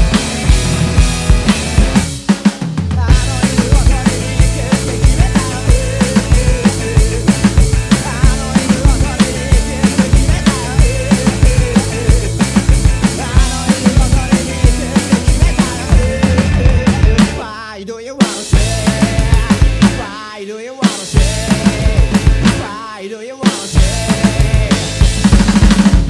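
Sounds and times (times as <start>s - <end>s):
drum kit beat: 0.0s - 26.0s
rock recording with vocals: 0.0s - 26.0s.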